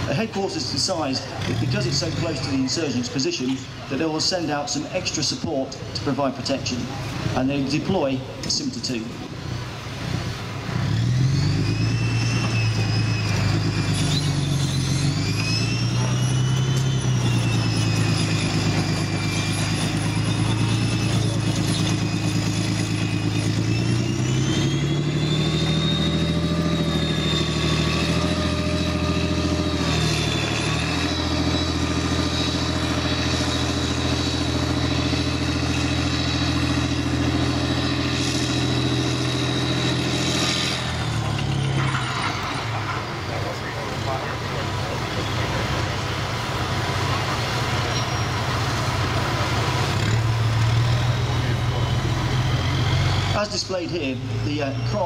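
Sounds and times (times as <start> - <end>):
diesel engine revving: 0.0 - 55.0
high mechanical whine: 0.0 - 55.0.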